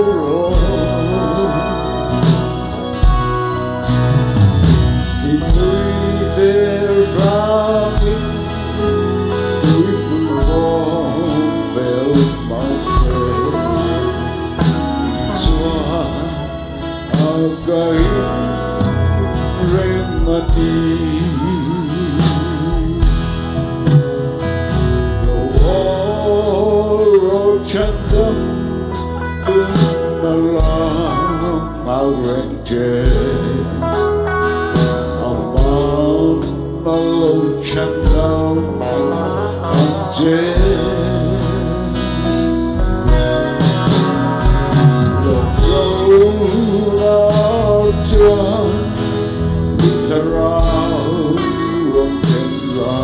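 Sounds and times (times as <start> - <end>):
band with guitar and drums: 0.0 - 53.0
man singing into a microphone: 0.0 - 53.0.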